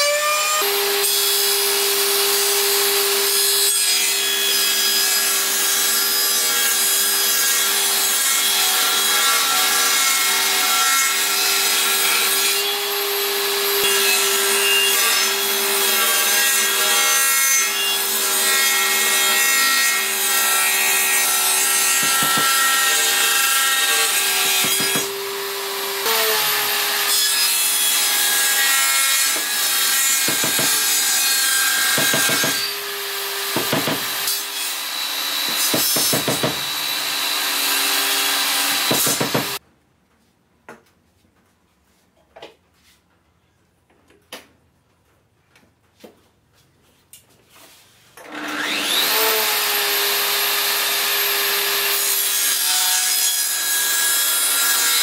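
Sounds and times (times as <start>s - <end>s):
power saw cutting wood: 0.0s - 39.6s, 48.2s - 55.0s.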